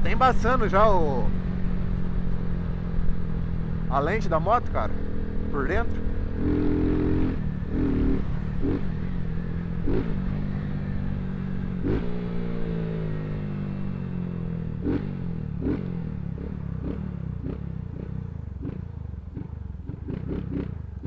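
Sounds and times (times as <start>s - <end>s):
motorcycle engine slowing: 0.0s - 21.0s.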